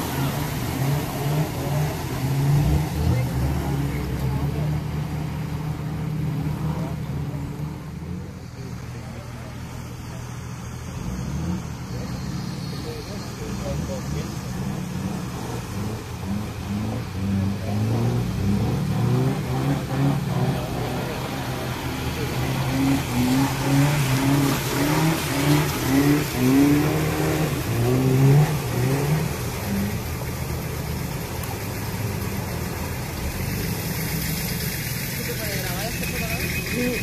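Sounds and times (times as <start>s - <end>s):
engine revving: 0.0s - 8.7s, 10.4s - 37.0s
water churning: 0.0s - 37.0s.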